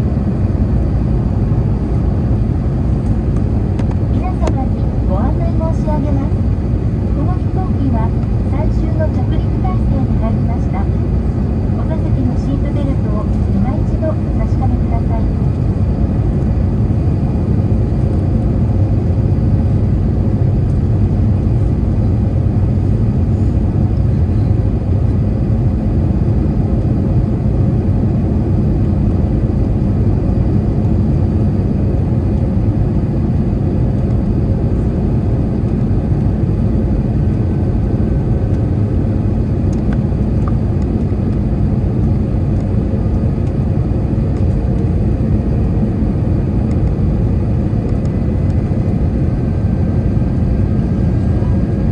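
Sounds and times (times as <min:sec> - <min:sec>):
aircraft cabin engine rumble: 0:00.0 - 0:51.9.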